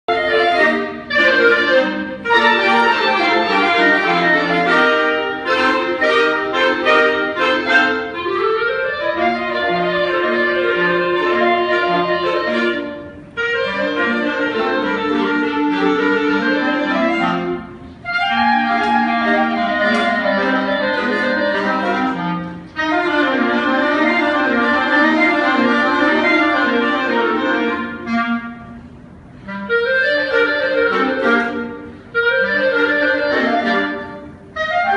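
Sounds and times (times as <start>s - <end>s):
lively instrumental tune: 0.1s - 34.9s.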